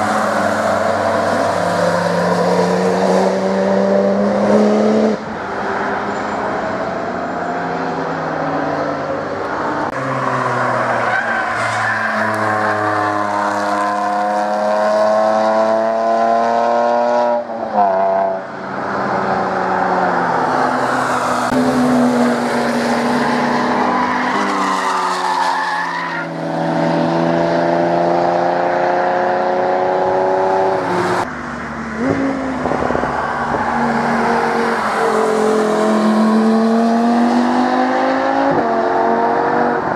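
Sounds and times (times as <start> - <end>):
sports car engines revving past: 0.0 - 6.9, 12.3 - 24.4, 26.4 - 39.9.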